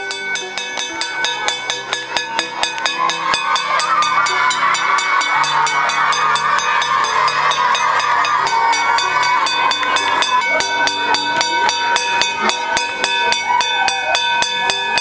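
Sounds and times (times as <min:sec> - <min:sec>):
metal gong bell ringing: 0:00.0 - 0:15.0.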